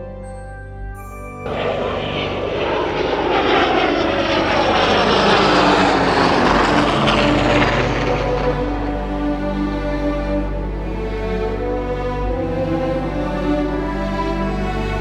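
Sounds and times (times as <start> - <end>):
aircraft flyby engine noise: 1.5 - 15.0.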